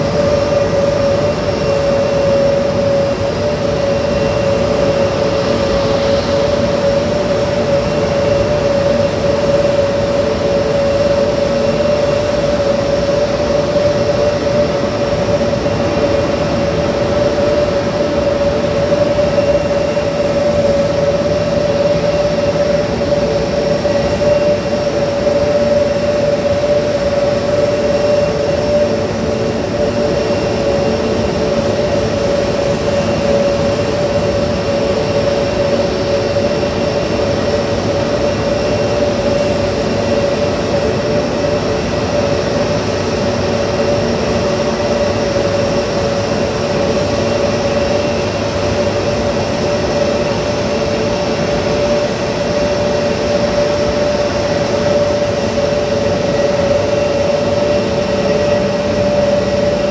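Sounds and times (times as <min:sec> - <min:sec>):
jet engines taxiing rumble: 0:00.0 - 0:59.9.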